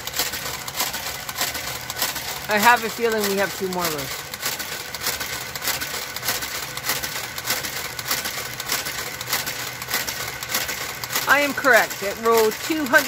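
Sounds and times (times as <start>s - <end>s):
knitting machine needles clicking: 0.0s - 13.0s
motor hum: 0.0s - 13.0s.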